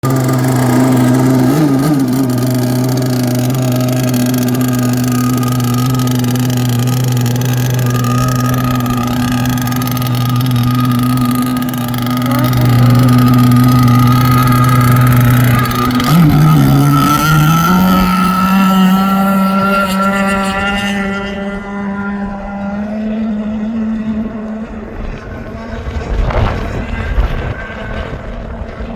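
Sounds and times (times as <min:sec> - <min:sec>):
model boat motor running: 0:00.0 - 0:28.9.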